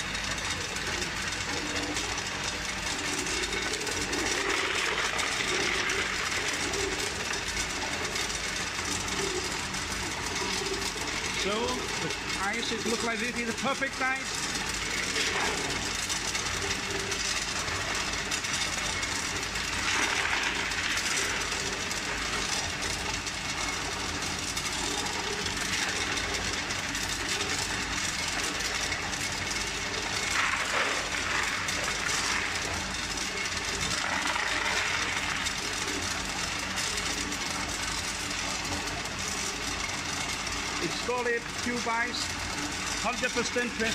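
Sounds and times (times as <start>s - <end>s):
machine humming: 0.0s - 43.9s.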